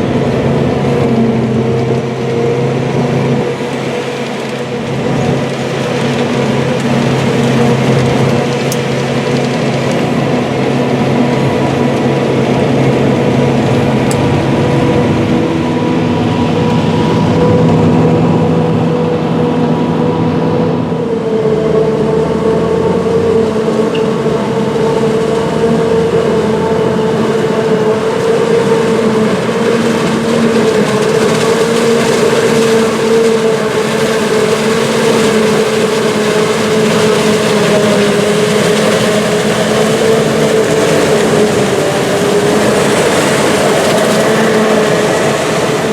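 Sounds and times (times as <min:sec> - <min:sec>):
diesel farm machinery running: 0:00.0 - 0:45.9
steady whine: 0:00.0 - 0:45.9.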